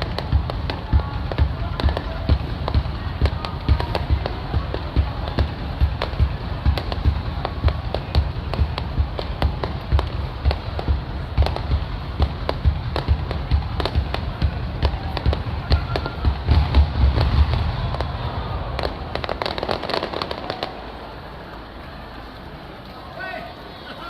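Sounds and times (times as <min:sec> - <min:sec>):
firework shells booming: 0:00.0 - 0:20.9
firework crackles: 0:00.0 - 0:24.0.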